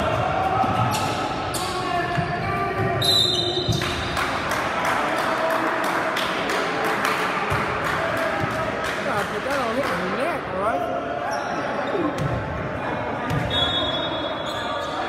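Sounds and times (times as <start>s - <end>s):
voices echoing in a hall: 0.0s - 15.0s.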